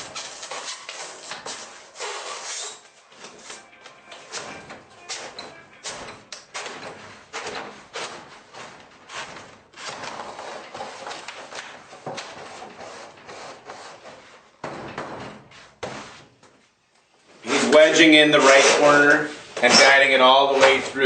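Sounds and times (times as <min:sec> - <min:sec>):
panel scraping and rubbing: 0:00.0 - 0:16.7, 0:17.3 - 0:21.0.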